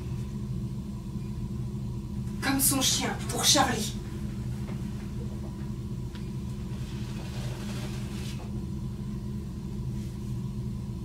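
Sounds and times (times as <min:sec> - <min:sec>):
low hum with pitched tones: 0:00.0 - 0:11.0.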